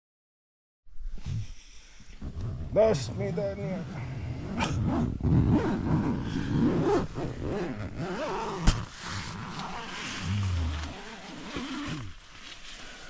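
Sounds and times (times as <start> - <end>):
tent fabric rustling and scraping: 2.2 - 13.0.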